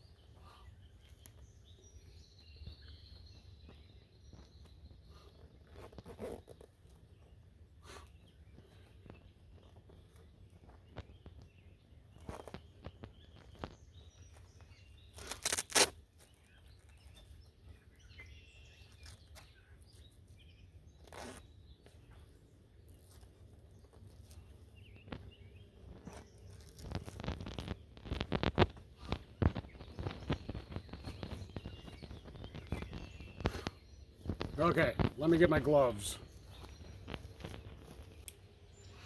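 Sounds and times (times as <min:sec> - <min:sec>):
faint birds chirping: 0:00.0 - 0:39.0
rustling and handling noises: 0:00.0 - 0:39.0.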